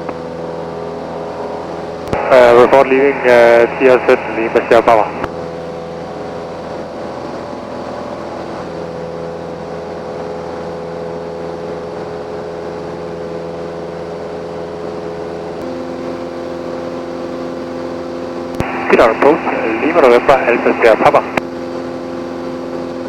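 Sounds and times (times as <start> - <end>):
airplane engine and propeller droning: 0.0 - 23.0.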